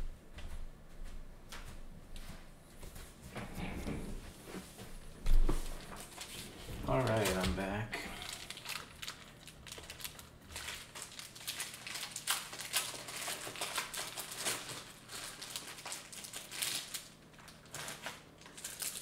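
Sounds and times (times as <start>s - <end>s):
plastic sleeves rustling: 3.4s - 19.0s.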